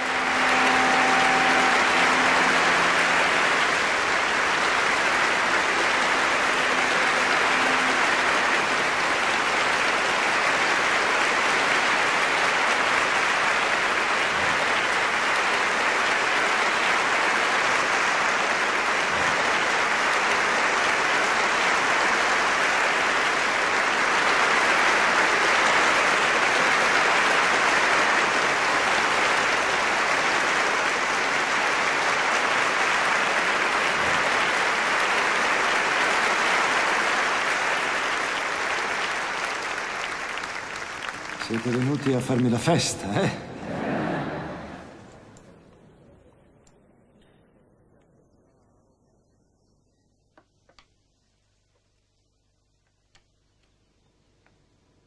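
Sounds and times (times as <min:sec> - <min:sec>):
large audience applauding: 0:00.0 - 0:45.5.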